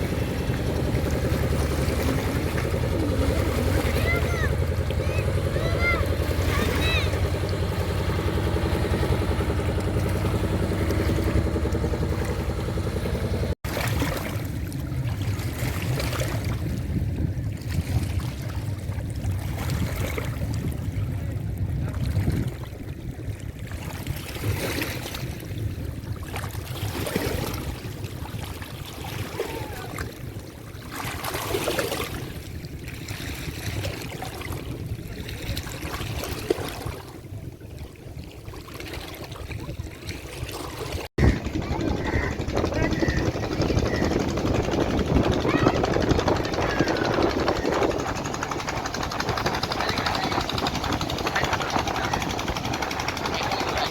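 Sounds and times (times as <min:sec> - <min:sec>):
boat engine running: 0:00.0 - 0:53.9
rush of water: 0:00.0 - 0:53.9.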